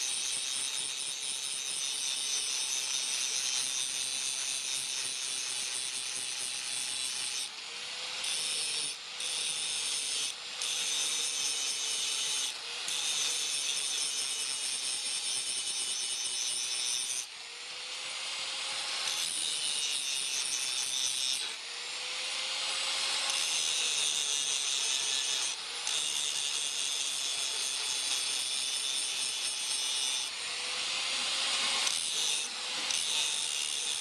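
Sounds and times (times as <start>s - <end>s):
power grinder grinding steel: 0.0s - 34.0s.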